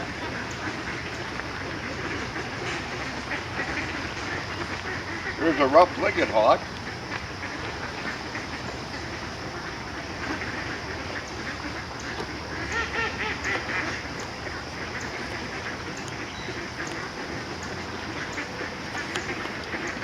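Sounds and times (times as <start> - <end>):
ducks quacking: 0.0 - 20.0
geese honking: 0.0 - 20.0
outdoor noise hiss: 0.0 - 20.0.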